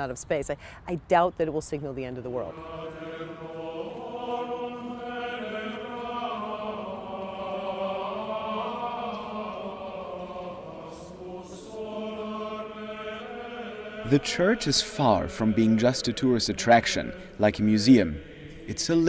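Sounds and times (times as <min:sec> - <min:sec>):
choir singing held notes: 0:02.3 - 0:19.0.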